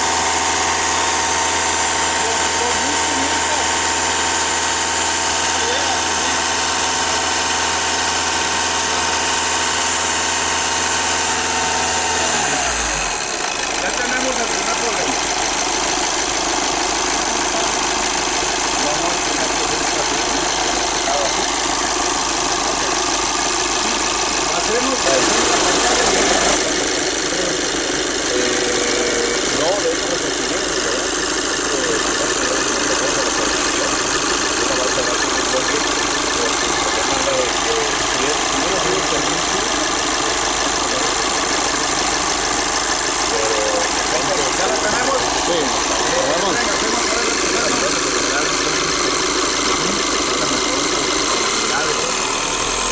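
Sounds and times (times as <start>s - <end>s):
diesel car engine revving: 0.0s - 52.9s.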